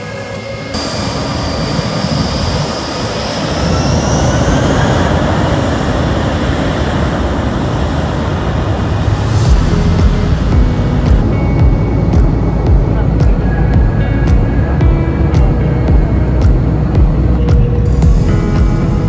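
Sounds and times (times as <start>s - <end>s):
high engine whine: 0.0s - 19.0s
jet engines spooling up: 0.0s - 19.0s.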